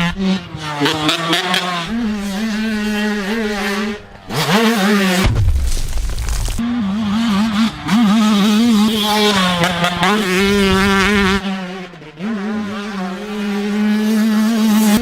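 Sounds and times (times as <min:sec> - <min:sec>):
two-stroke motocross engine: 0:00.0 - 0:05.3, 0:06.6 - 0:15.0.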